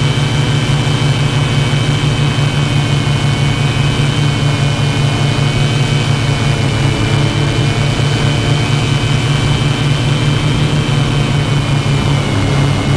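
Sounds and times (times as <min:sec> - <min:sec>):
drone propellers humming: 0:00.0 - 0:12.9.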